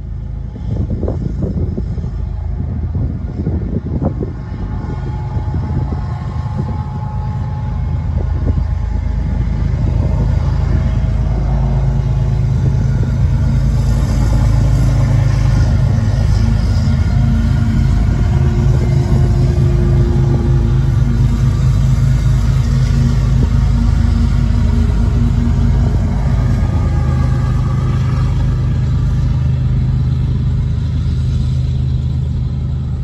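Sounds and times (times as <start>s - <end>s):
diesel locomotive engine drone: 0.0s - 33.0s
wheels hissing on rail: 0.0s - 33.0s.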